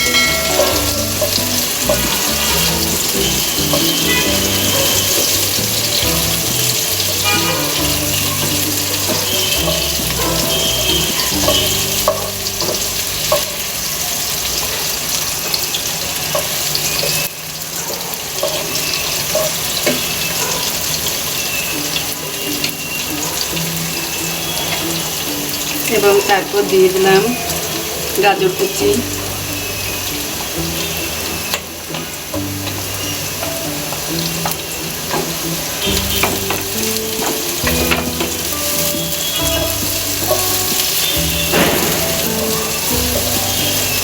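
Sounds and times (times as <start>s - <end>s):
background music: 0.0s - 14.0s, 20.8s - 44.0s
onion and garlic sizzling in oil: 0.0s - 44.0s.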